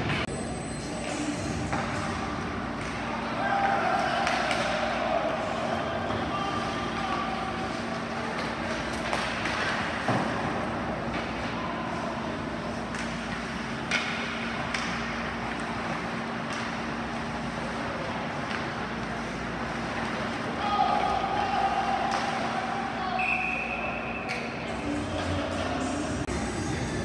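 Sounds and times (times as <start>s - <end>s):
ice rink hum and drone: 0.0s - 27.0s.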